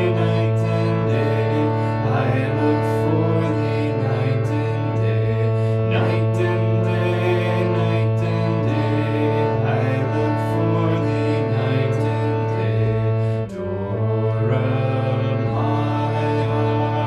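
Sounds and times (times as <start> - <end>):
slow instrumental music: 0.0 - 17.0.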